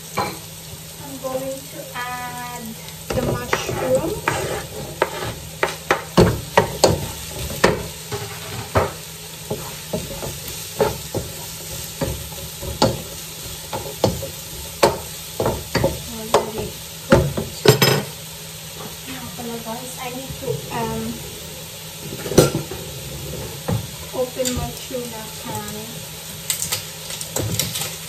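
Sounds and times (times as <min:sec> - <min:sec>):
vegetables sizzling: 0:00.0 - 0:28.0.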